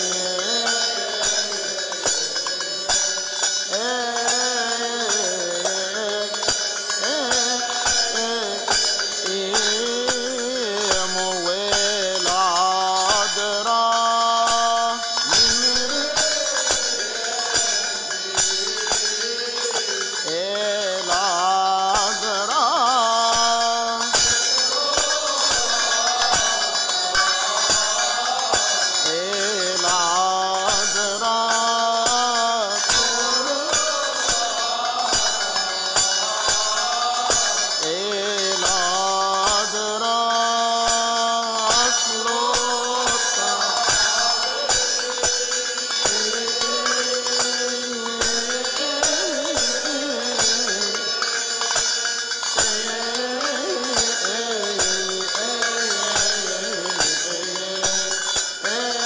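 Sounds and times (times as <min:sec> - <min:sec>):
man singing a hymn: 0:00.0 - 0:51.4, 0:52.6 - 0:59.0
steady percussion beat: 0:00.0 - 0:59.0.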